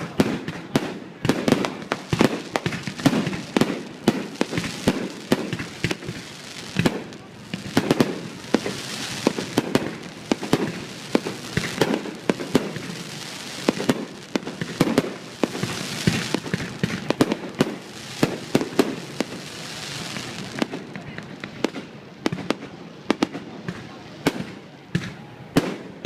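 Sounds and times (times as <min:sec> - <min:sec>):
crackling hiss: 0:00.0 - 0:26.0
fireworks bangs and pops: 0:00.0 - 0:26.0.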